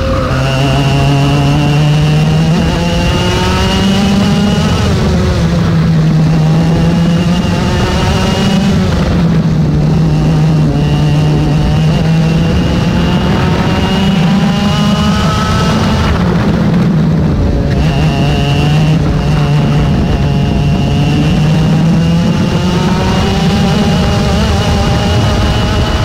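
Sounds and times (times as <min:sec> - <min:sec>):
two-stroke kart engine at full throttle: 0:00.0 - 0:26.0.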